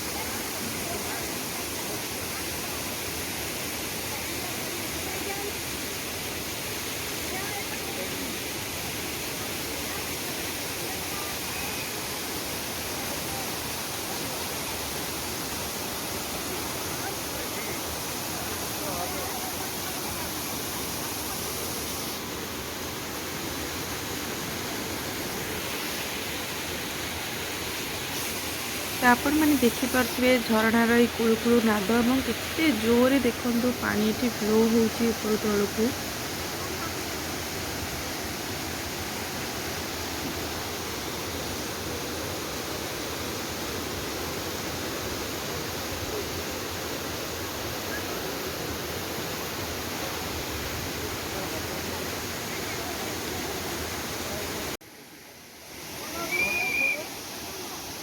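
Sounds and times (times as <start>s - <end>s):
waterfall splashing: 0.0s - 58.0s.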